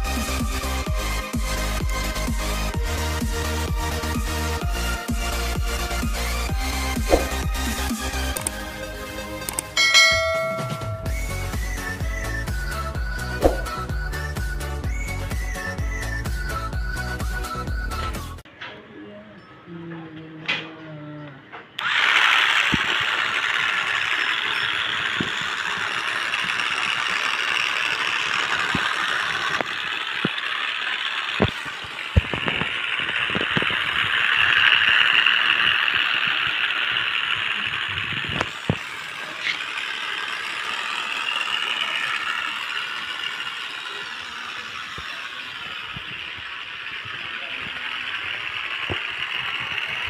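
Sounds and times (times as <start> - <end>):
toy motor gear whine: 0.0 - 18.4, 21.8 - 50.0.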